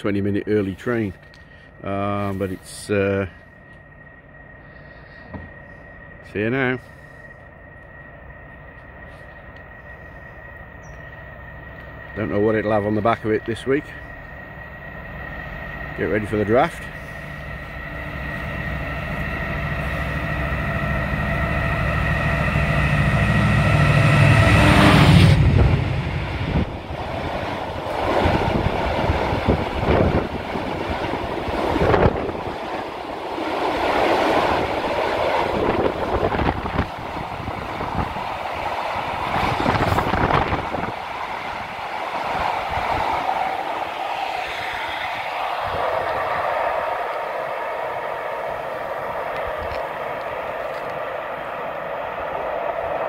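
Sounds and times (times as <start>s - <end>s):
diesel locomotive engine droning: 0.0s - 53.0s
train wheels rumbling on rail: 0.0s - 53.0s.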